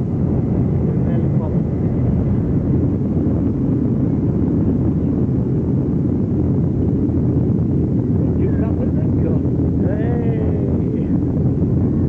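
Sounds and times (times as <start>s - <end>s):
jet engines in cabin: 0.0s - 12.0s.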